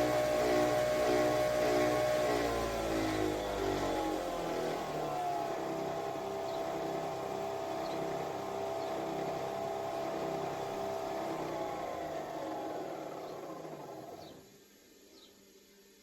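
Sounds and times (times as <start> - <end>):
coffee machine motor whir: 0.0 - 14.5.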